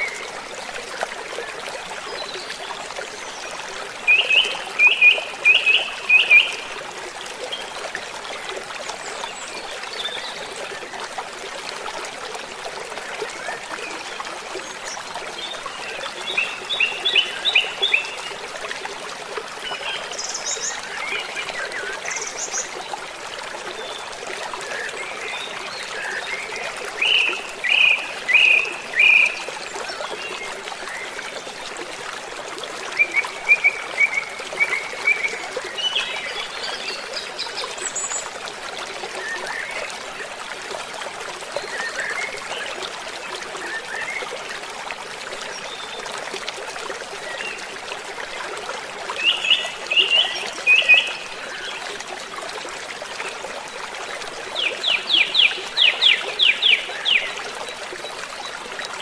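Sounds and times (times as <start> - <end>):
stream running: 0.0 - 59.0.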